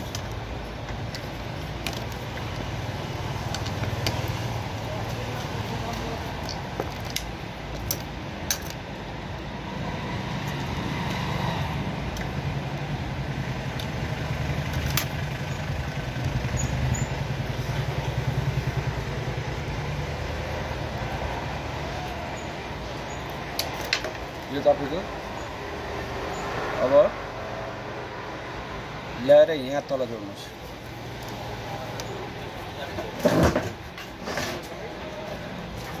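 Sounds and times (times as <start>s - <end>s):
traffic engine rumble: 0.0s - 36.0s.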